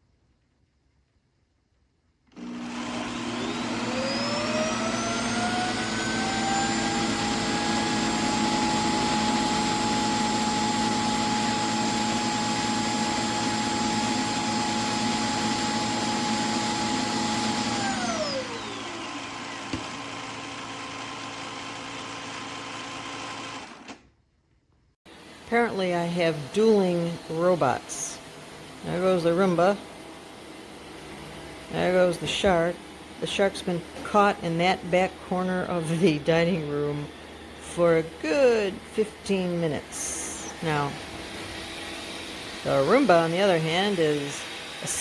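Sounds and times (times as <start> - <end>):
vacuum cleaner motor whine: 2.3 - 24.0, 25.1 - 45.0.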